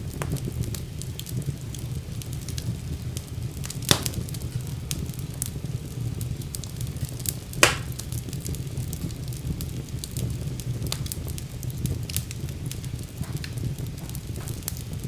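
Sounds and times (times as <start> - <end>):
flames rumbling in fireplace: 0.0 - 15.0
loud fire pops: 0.0 - 15.0
small fire crackles: 0.0 - 15.0.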